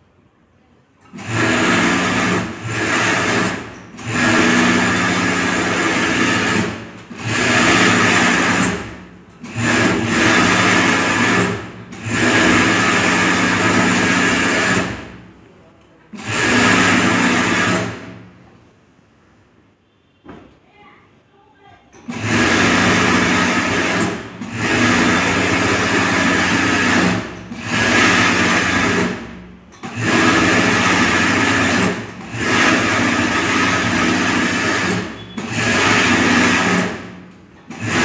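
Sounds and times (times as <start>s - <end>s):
overlock sewing machine running: 1.0s - 15.4s, 16.1s - 18.3s, 22.0s - 38.0s.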